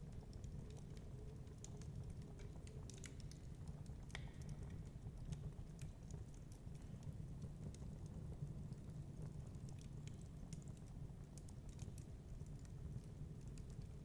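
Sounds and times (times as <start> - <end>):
fireplace crackling: 0.0 - 14.0.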